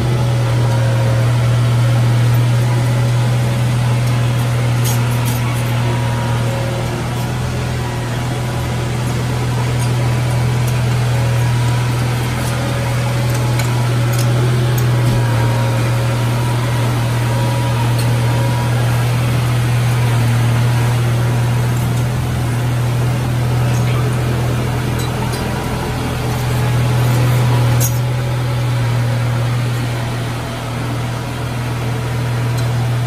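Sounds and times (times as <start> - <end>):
bulldozer diesel engine droning: 0.0 - 33.0.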